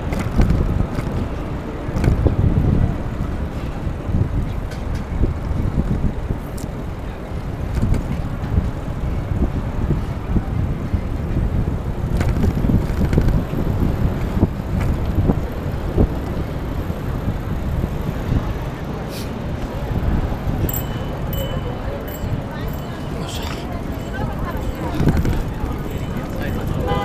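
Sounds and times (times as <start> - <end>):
traffic noise: 0.0 - 27.0
wind noise on microphone: 0.0 - 27.0.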